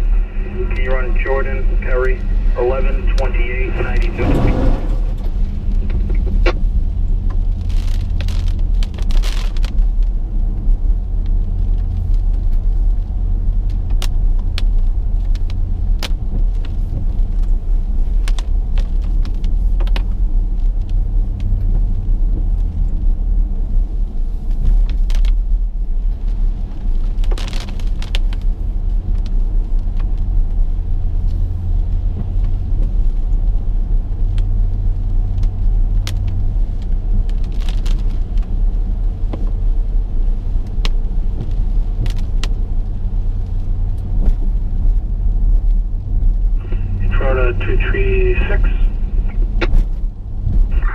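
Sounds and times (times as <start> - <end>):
car driving in rain: 0.0 - 50.9.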